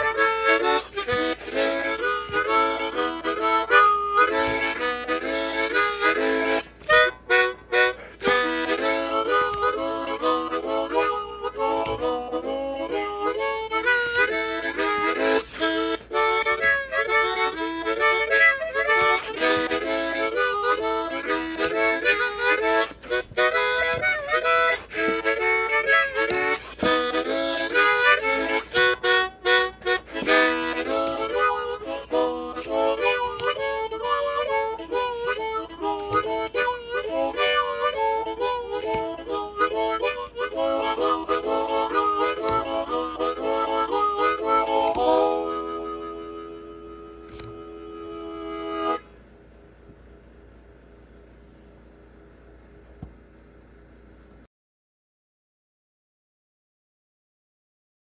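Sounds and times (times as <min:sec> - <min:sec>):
wind instrument melody: 0:00.0 - 0:49.1.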